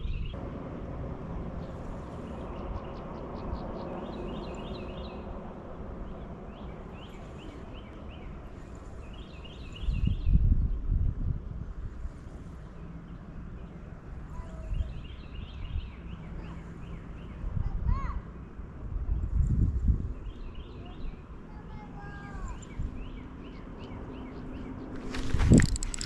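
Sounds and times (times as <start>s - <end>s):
steady outdoor noise: 0.0s - 26.0s
small birds chirping: 1.6s - 10.6s, 12.0s - 26.0s.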